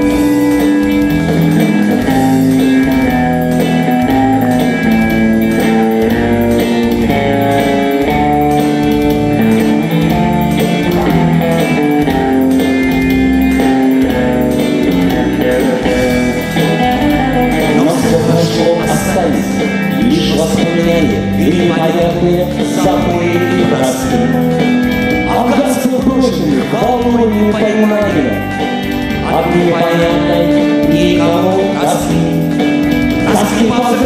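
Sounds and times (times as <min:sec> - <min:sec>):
band playing instrumental: 0:00.0 - 0:34.0
guitar melody: 0:00.0 - 0:34.0.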